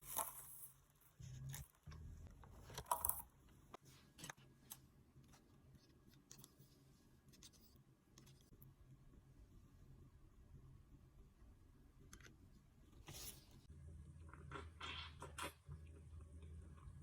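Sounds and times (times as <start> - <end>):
faint low hum: 0.1 - 17.0.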